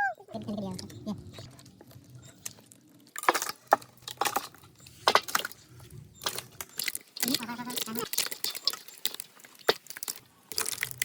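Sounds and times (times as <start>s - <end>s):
clicks and knocks of hard objects: 0.7s - 11.0s.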